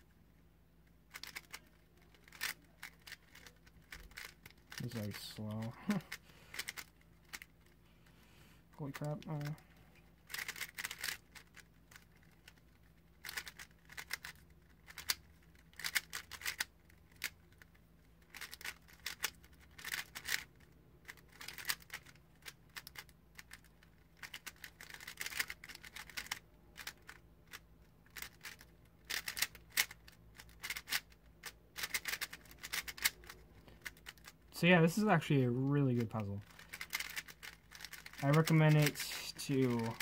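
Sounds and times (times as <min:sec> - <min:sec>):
puzzle cube plastic clicks: 0:00.8 - 0:07.8, 0:08.8 - 0:09.6, 0:10.2 - 0:35.0, 0:36.0 - 0:40.0.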